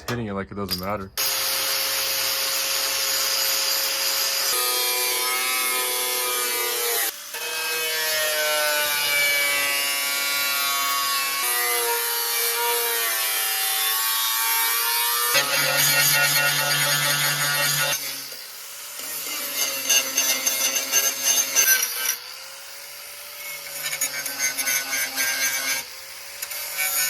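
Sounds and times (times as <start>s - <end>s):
angle grinder grinding steel: 0.7s - 27.0s.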